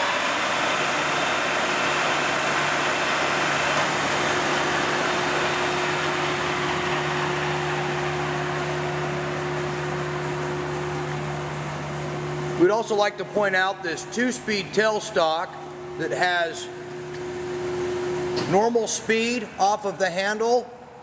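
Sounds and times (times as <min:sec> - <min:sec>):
lathe whirring over low hum: 0:00.0 - 0:21.0.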